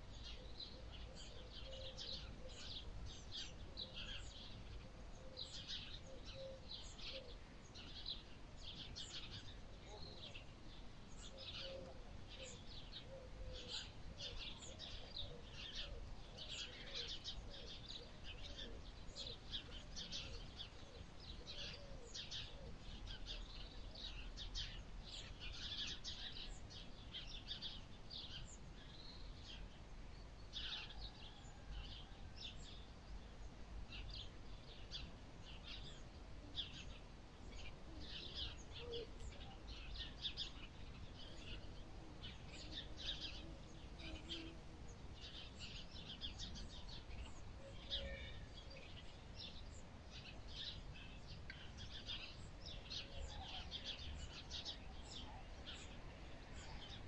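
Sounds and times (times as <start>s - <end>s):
lower repeated bird calls: 0.0s - 57.0s
small birds chirping and twittering: 0.0s - 57.0s.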